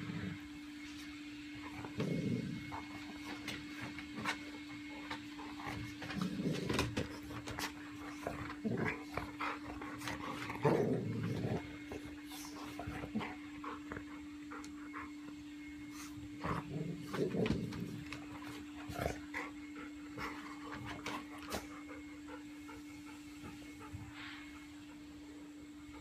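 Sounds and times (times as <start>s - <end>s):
dogs play-fighting noises: 0.0s - 26.0s.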